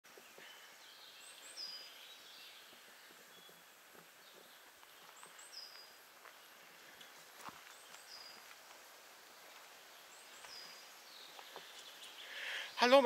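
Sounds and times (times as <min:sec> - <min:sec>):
faint birdsong: 0:00.1 - 0:13.0.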